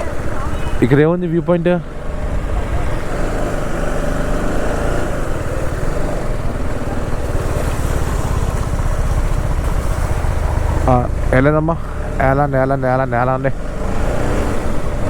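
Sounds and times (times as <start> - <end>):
motorcycle engine running: 0.0 - 15.0
road noise: 0.0 - 15.0.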